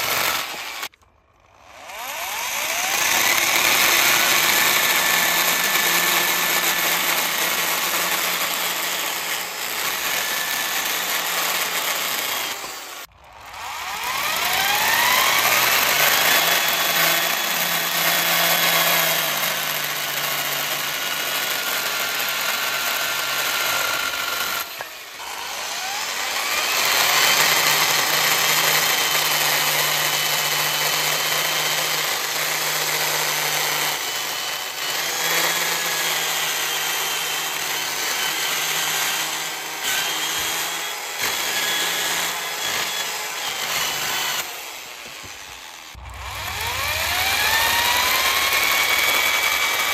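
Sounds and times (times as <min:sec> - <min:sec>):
motor whining up to speed: 0:00.0 - 0:31.8, 0:32.8 - 0:49.9
electric drill cutting wood: 0:00.0 - 0:49.9.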